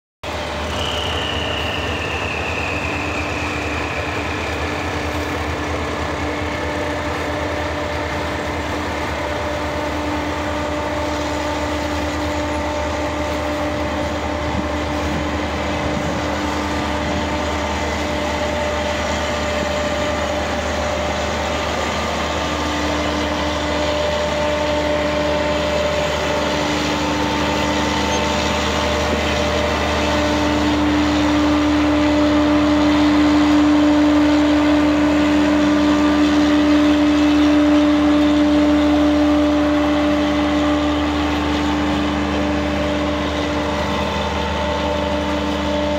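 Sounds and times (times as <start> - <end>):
high whine: 0.2 - 45.9
train engine droning hum: 0.2 - 45.9
low rumble of coaches rolling: 0.3 - 45.9.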